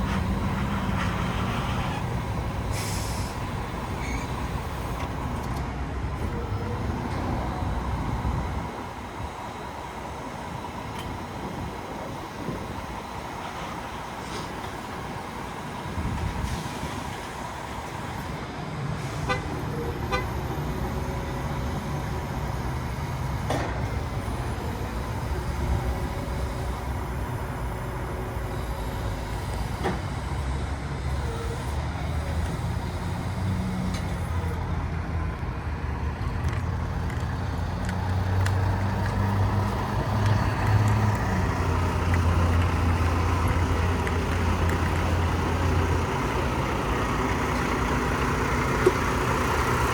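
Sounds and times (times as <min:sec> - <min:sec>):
heavy diesel truck engine running: 0:00.0 - 0:49.9.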